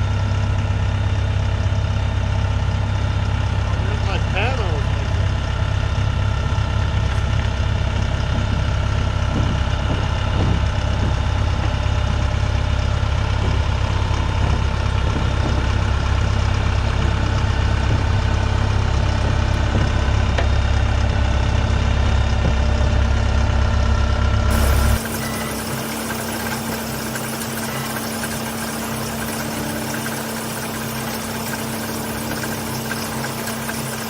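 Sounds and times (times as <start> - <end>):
heavy engine idling: 0.0 - 34.0.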